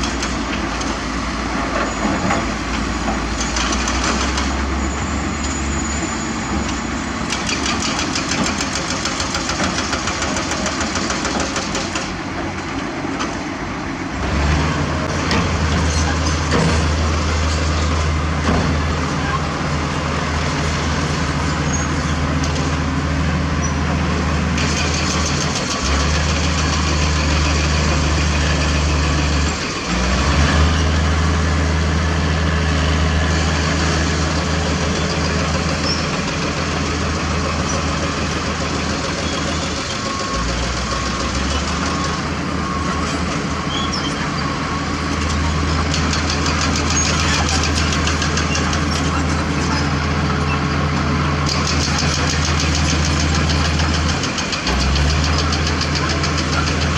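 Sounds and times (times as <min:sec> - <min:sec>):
heavy diesel engines running: 0:00.0 - 0:56.9.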